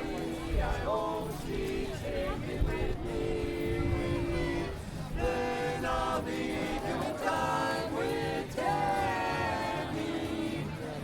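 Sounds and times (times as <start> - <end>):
voices singing together: 0.0 - 11.0.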